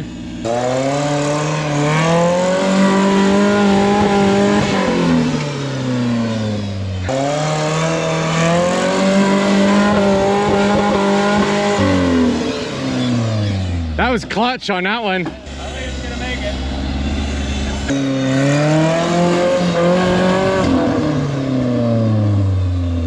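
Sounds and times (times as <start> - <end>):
engine revving hard: 0.0 - 14.5, 15.5 - 23.0.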